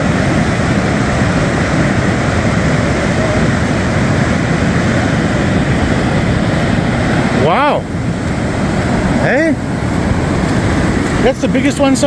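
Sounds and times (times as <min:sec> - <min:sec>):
breaking surf: 0:00.0 - 0:12.0
wind on microphone: 0:00.0 - 0:12.0.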